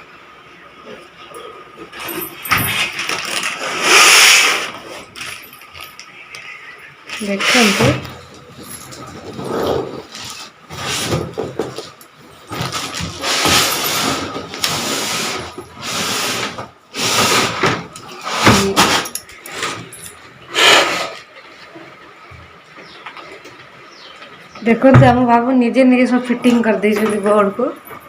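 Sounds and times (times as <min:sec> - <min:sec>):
handling and tool noise: 0:01.8 - 0:24.4.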